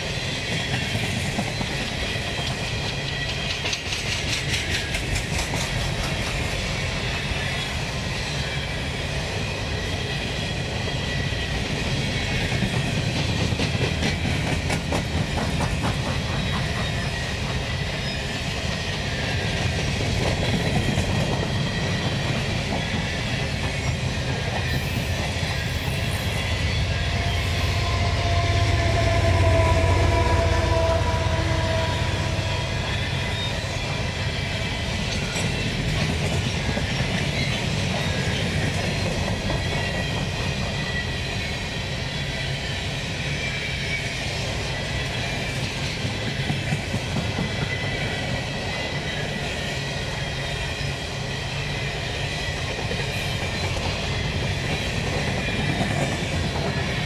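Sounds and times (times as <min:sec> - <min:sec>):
train cars rolling past: 0:00.0 - 0:57.0
train wheels squealing: 0:00.0 - 0:57.0.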